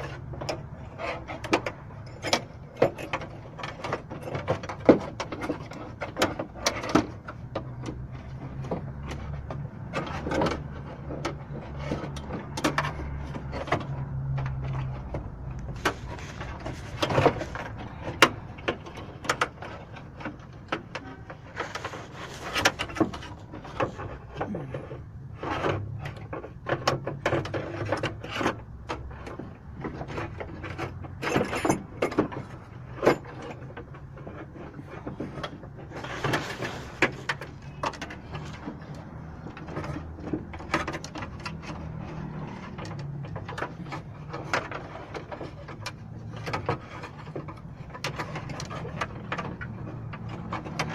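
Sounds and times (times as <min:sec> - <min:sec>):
metal parts and tools rattling: 0:00.0 - 0:50.9.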